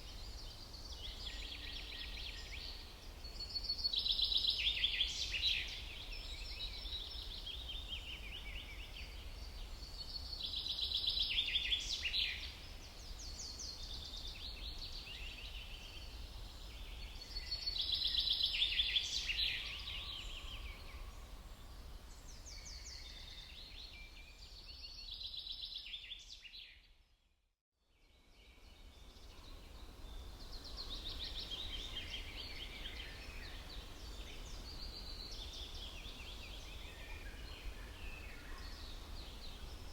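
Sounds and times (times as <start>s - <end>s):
songbirds singing: 0.0s - 26.8s, 28.0s - 39.9s.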